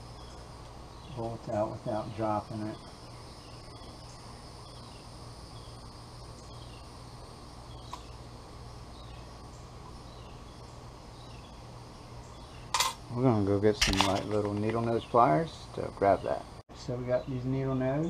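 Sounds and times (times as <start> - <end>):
faint insect chirps: 0.0 - 18.0
insects droning: 0.0 - 18.0
low steady hum: 0.0 - 18.0.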